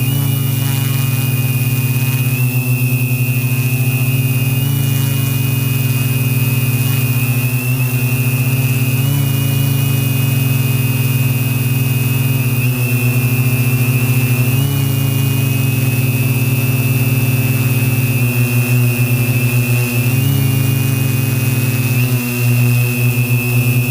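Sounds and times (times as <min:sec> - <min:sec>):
drone motors buzzing: 0:00.0 - 0:23.9.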